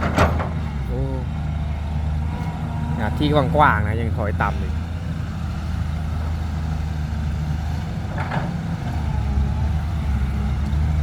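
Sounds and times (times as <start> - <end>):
heavy vehicle engine droning: 0.0 - 11.0.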